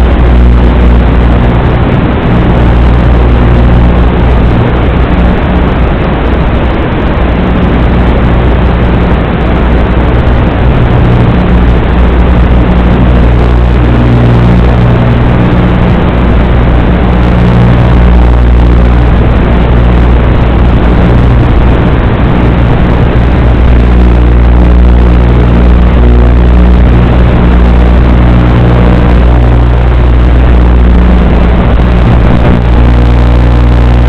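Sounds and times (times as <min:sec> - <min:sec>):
quadcopter motor drone: 0:00.0 - 0:34.0.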